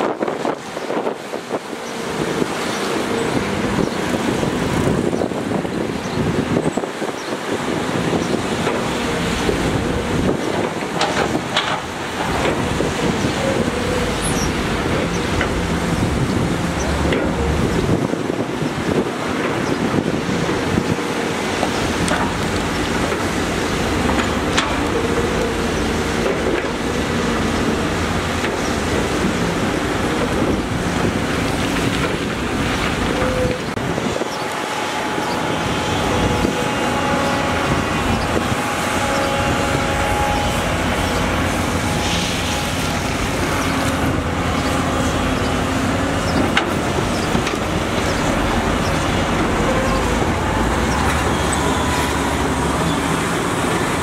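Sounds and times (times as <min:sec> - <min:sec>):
diesel construction machinery running: 0:00.0 - 0:54.0
wind on microphone: 0:00.0 - 0:54.0.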